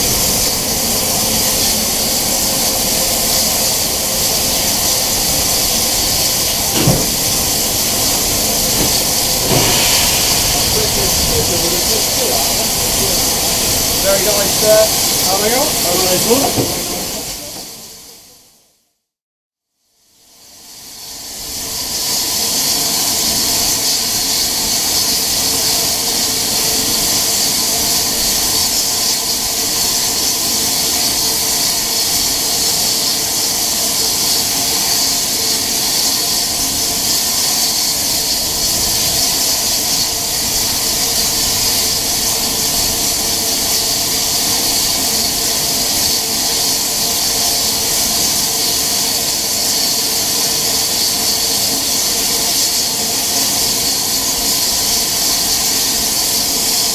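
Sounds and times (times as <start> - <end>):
steam locomotive hissing: 0.0 - 18.4, 20.8 - 56.9.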